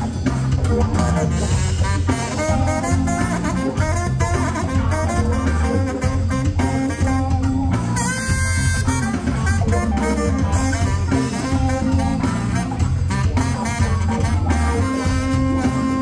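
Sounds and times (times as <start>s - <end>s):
upbeat band music with horns: 0.0s - 16.0s.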